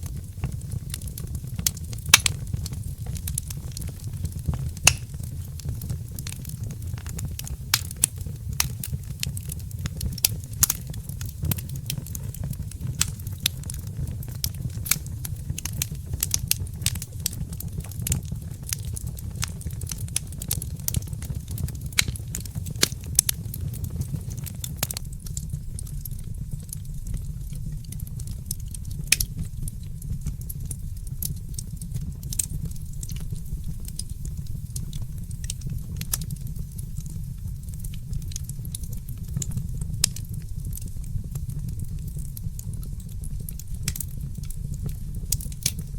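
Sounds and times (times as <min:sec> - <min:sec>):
fireplace crackling: 0:00.0 - 0:45.9
low fire rumble: 0:00.0 - 0:45.9.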